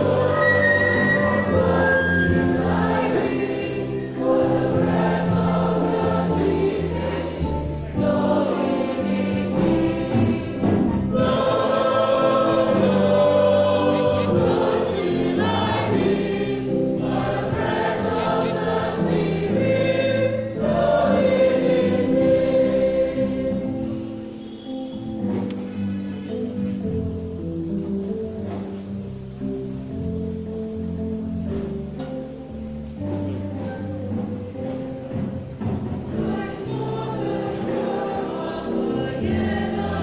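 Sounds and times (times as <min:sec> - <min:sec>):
choir singing a hymn: 0:00.0 - 0:40.0.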